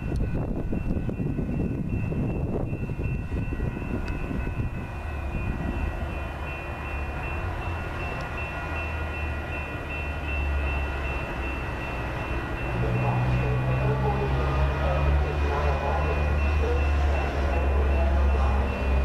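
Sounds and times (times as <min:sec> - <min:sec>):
low rumble of train: 0:00.0 - 0:19.0
pulsing high ringing tone: 0:00.0 - 0:19.0.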